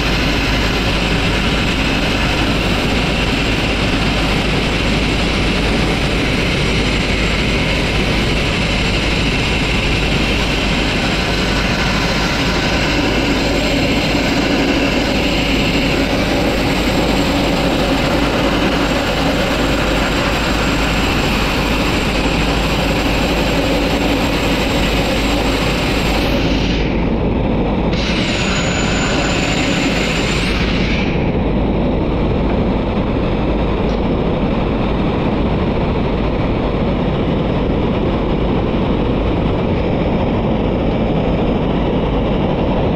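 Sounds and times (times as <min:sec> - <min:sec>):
air compressor drone: 0:00.0 - 0:42.9.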